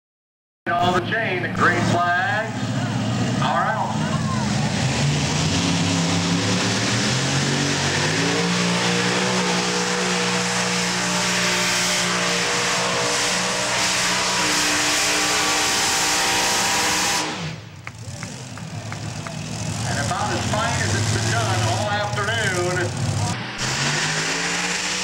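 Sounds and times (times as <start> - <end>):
tractor engine at high revs: 1.5 - 25.0.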